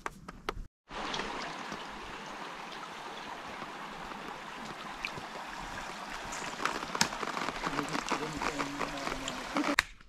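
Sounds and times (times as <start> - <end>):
stream flowing: 0.9 - 9.8.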